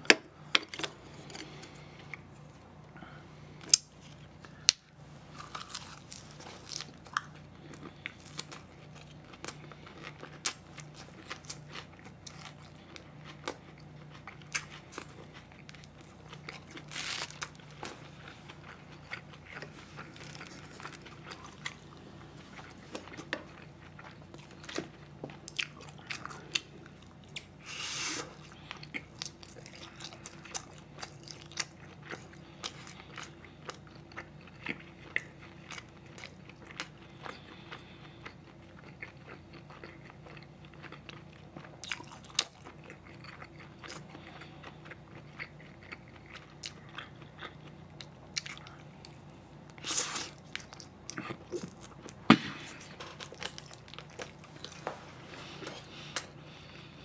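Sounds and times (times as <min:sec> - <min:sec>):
faint steady hum: 0:00.0 - 0:57.0
man chewing food: 0:00.0 - 0:57.0.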